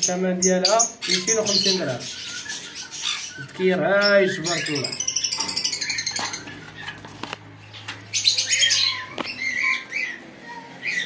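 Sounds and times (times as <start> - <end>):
high rattling bird trill: 0.0 - 11.0
pet birds chirping: 0.0 - 11.0.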